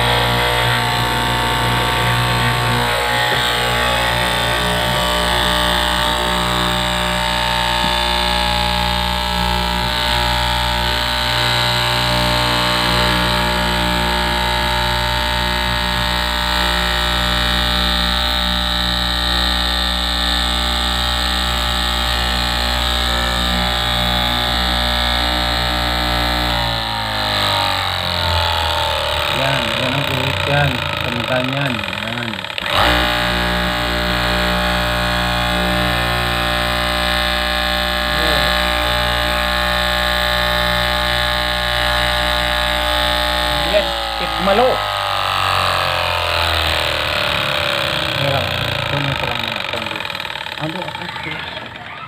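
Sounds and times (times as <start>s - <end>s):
cloth cutting machine running: 0.0s - 52.0s.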